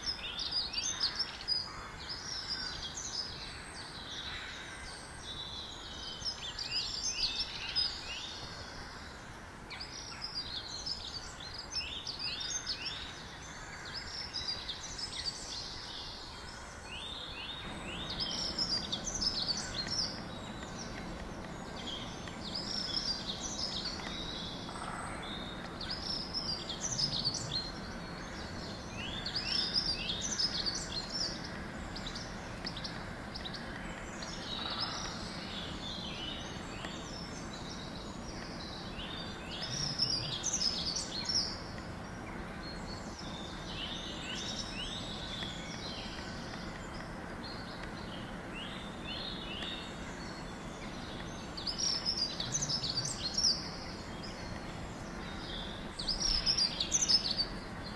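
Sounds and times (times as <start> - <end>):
outdoor background noise: 0.0 - 57.9
small birds chirping: 0.0 - 57.9.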